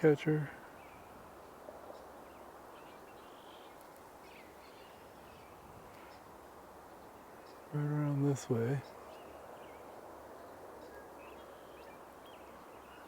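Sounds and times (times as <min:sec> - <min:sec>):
low outdoor background hiss: 0:00.0 - 0:13.0
songbird chirps: 0:00.0 - 0:13.0.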